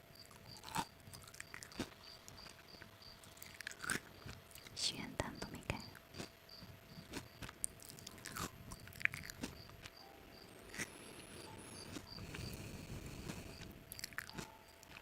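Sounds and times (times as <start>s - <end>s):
person chewing crunchy snack: 0.3s - 4.8s, 6.0s - 15.0s.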